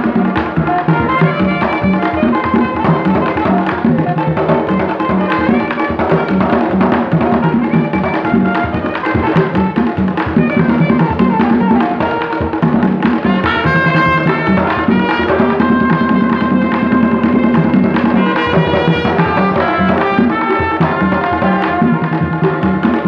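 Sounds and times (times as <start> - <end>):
hand drums beaten fast: 0.0 - 23.0
saxophones and trumpet long notes: 0.7 - 23.0.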